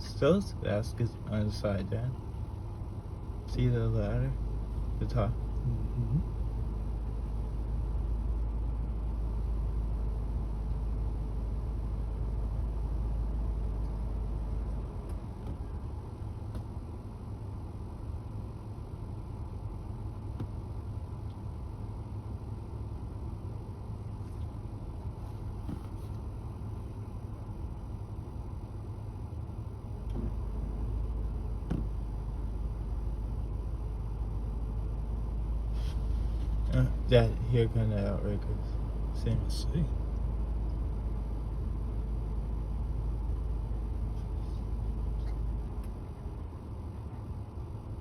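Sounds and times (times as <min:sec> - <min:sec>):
diesel engine rumbling: 0:00.0 - 0:48.0.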